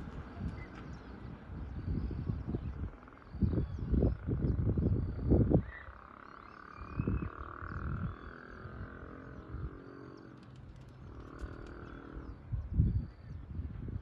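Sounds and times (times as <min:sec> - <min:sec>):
wind gusts on microphone: 0:00.0 - 0:06.1, 0:06.8 - 0:14.0
faint high bird chirps: 0:00.0 - 0:14.0
frogs croaking: 0:01.1 - 0:13.3.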